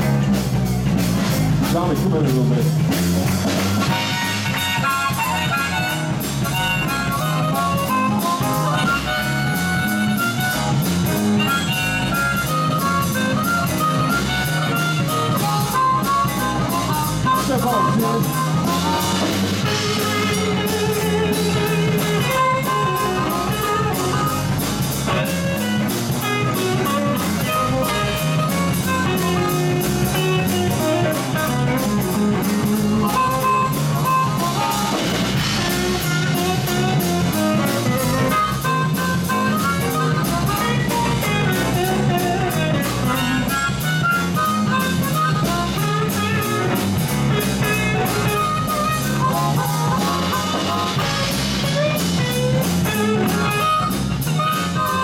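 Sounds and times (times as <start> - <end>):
live blues band playing: 0.0 - 55.0
harmonica: 3.2 - 55.0.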